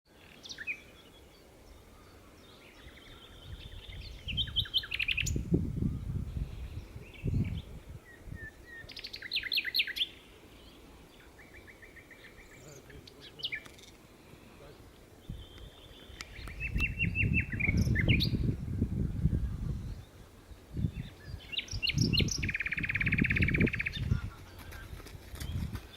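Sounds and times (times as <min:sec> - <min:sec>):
nightingale singing: 0:00.1 - 0:14.0, 0:14.8 - 0:25.9.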